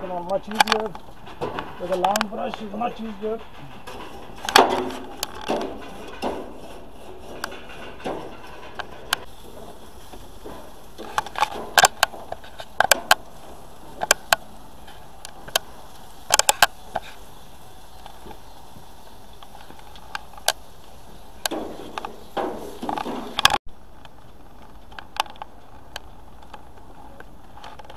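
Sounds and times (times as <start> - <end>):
steady low hiss: 0.0 - 27.9.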